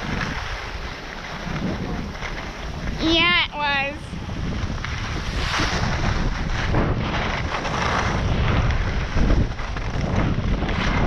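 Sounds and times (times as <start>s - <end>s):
skis scraping on hard snow: 0.0s - 11.0s
wind buffeting microphone: 0.0s - 11.0s.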